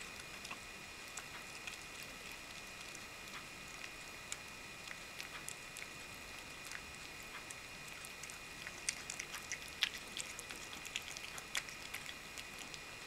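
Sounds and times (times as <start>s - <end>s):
cat chewing wet food: 0.0s - 13.0s.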